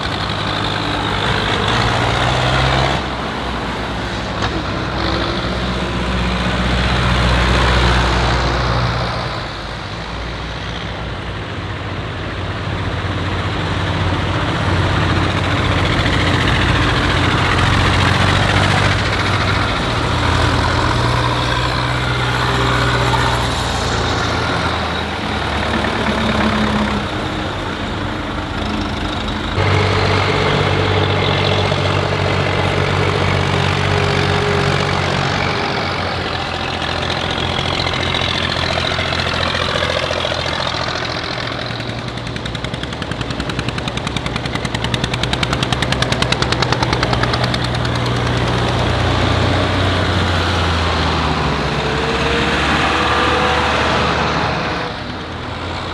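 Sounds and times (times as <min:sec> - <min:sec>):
tractor engines driving past: 0:00.0 - 0:55.9.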